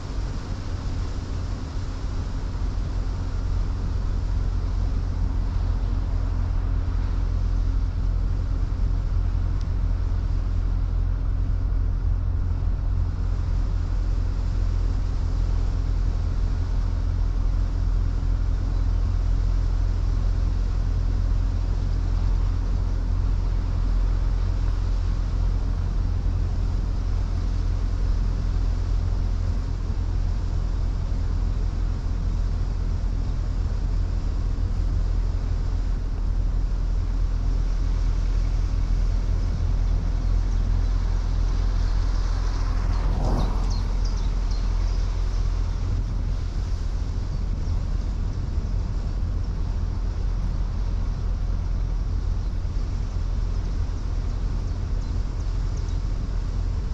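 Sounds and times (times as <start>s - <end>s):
car engine and road noise: 0.0s - 56.9s
faint steady hum: 0.0s - 56.9s.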